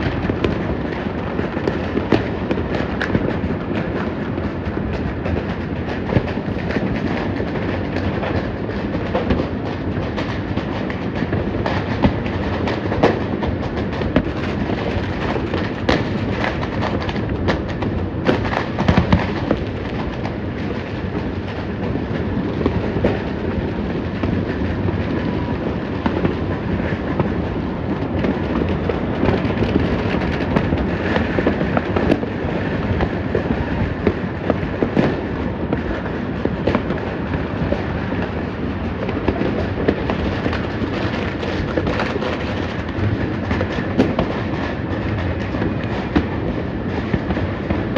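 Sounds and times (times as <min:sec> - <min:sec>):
firecrackers crackling and popping: 0:00.0 - 0:47.9
loud firework bangs: 0:00.0 - 0:47.9.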